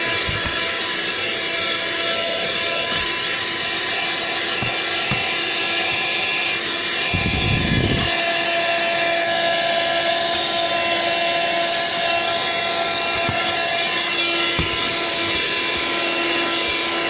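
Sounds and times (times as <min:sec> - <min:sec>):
handheld vacuum cleaner whine: 0:00.0 - 0:17.0.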